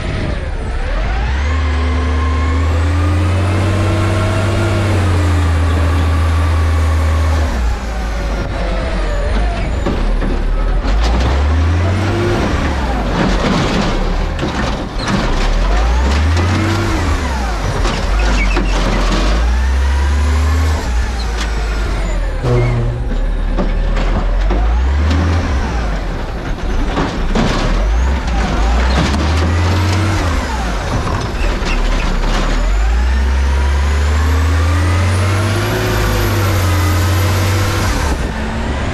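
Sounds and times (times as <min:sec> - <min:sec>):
garbage truck engine revving: 0:00.0 - 0:38.9.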